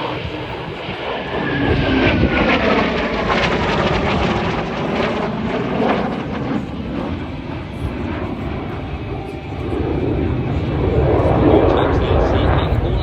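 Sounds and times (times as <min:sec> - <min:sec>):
jet engines roaring in flyby: 0:00.0 - 0:13.0.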